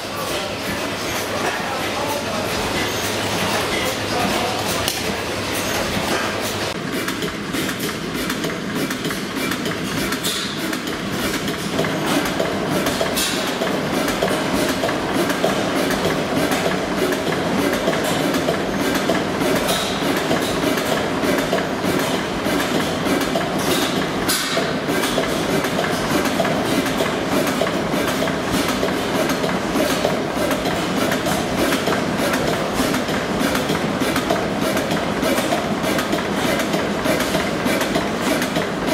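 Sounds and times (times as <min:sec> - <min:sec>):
stationary engine clattering: 0:00.0 - 0:38.9.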